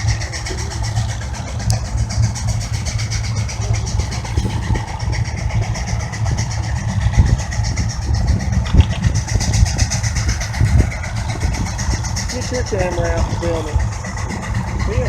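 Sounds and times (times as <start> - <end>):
heavy low rumble: 0.0 - 15.0
steam engine exhaust chuffing: 0.0 - 15.0.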